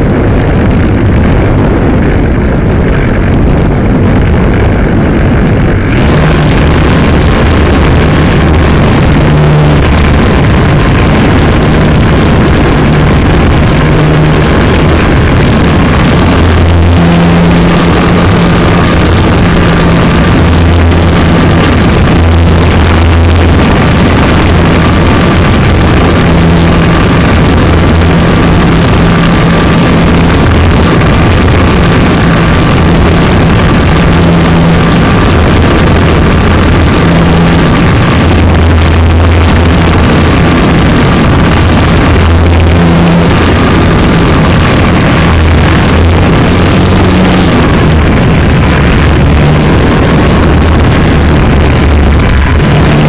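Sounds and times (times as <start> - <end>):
low intermittent hum: 0.0 - 53.0
model plane motor whine: 4.4 - 53.0.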